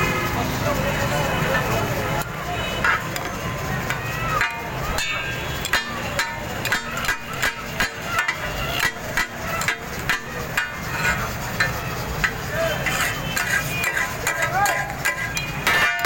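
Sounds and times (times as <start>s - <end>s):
metal spatulas clanking on griddle: 1.4s - 16.0s.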